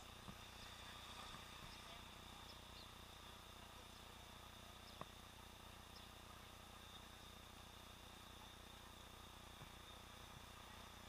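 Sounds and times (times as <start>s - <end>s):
faint steady hiss: 0.0s - 11.0s
thin high-pitched whine: 0.0s - 11.0s.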